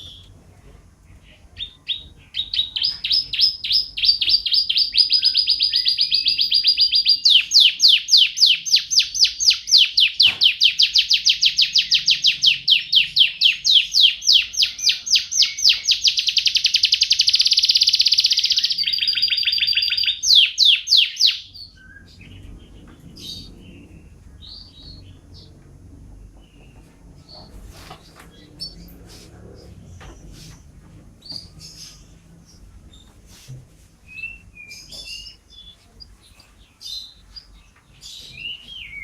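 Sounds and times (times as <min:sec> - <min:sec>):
canary singing: 0:00.0 - 0:00.4, 0:01.1 - 0:33.2, 0:34.0 - 0:39.0.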